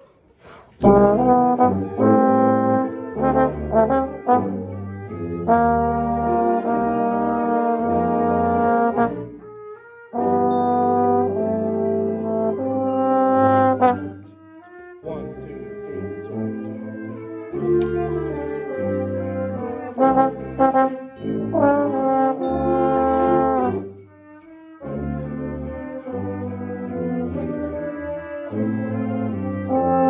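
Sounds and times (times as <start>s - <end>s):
trombone playing: 0.8s - 24.1s, 24.8s - 30.0s.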